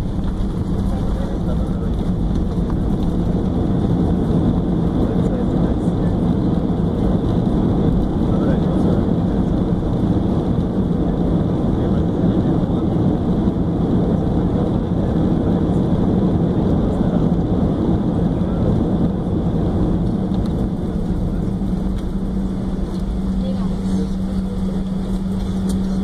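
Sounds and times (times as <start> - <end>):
jet engines and wheels rumbling: 0.0 - 26.0.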